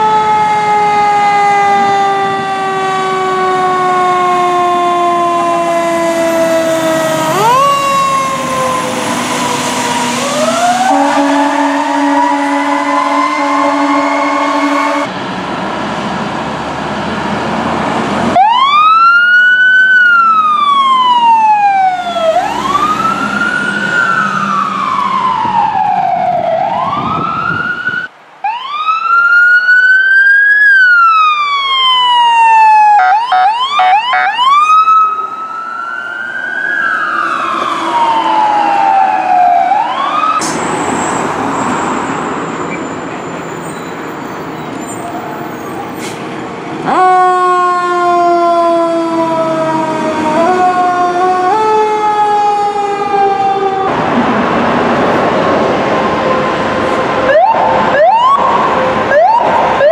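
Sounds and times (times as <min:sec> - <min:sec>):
truck engine: 0:00.0 - 0:28.0, 0:32.6 - 0:59.9
fire truck sirens wailing: 0:00.0 - 0:59.9
road noise: 0:00.0 - 0:59.9.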